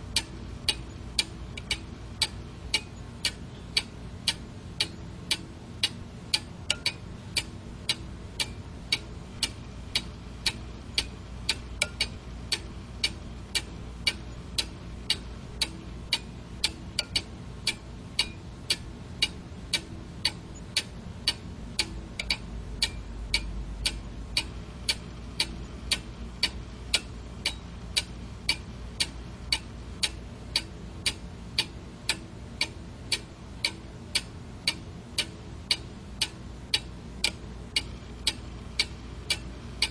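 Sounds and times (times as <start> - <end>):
clock ticking: 0.1 - 39.9.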